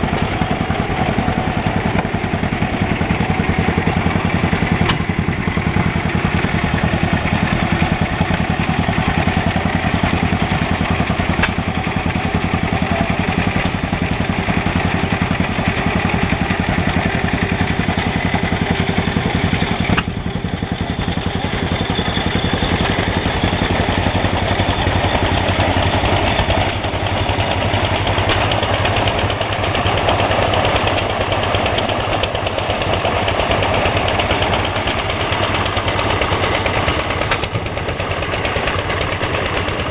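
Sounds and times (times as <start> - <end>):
stationary engines firing steadily: 0.0 - 39.9.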